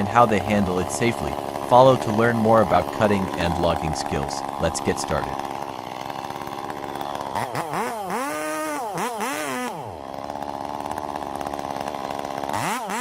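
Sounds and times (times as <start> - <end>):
chainsaw engine revving and idling: 0.0 - 13.0.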